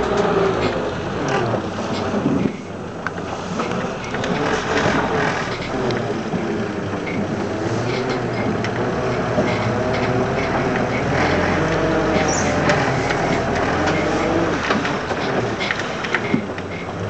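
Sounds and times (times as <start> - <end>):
car engine running: 0.0 - 17.0
vehicle knocks and rattles: 0.0 - 17.0.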